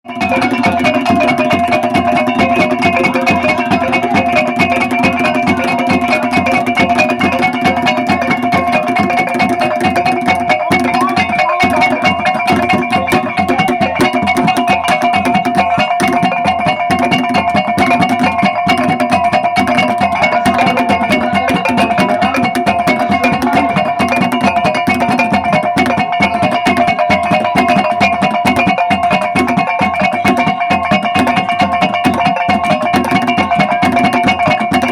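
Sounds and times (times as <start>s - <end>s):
fast drum beat: 0.1s - 34.9s.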